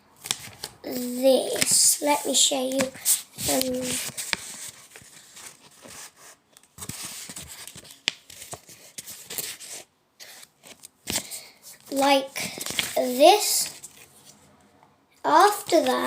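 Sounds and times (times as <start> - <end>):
paper crackles: 0.2 - 14.4, 15.4 - 16.0
paper rustling and crinkling: 0.2 - 14.4, 15.4 - 16.0.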